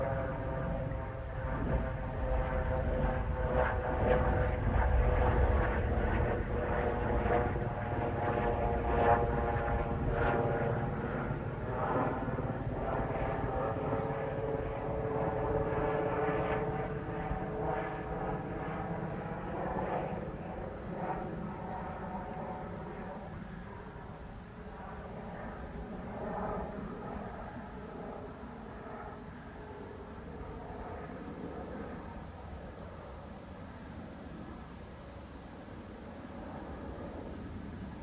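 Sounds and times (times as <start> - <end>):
helicopter engine and rotor drone: 0.0 - 38.0.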